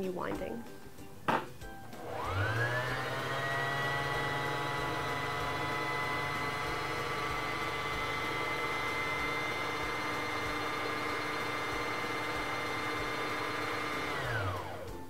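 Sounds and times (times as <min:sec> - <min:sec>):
sewing machine motor whine: 0:02.0 - 0:14.9.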